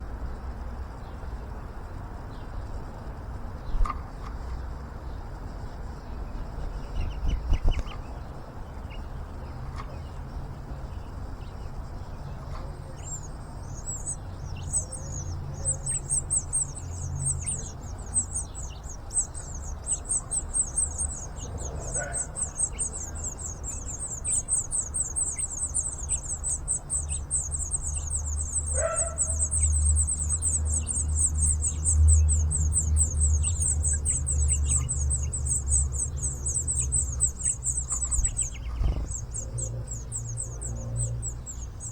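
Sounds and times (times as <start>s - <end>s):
nestling birds chirping: 2.2s - 41.9s.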